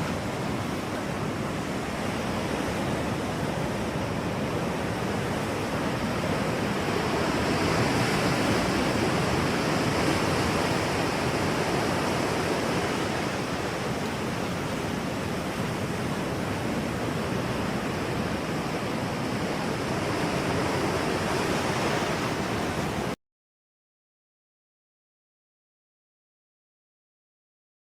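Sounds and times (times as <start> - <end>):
rushing water: 0.0 - 23.2.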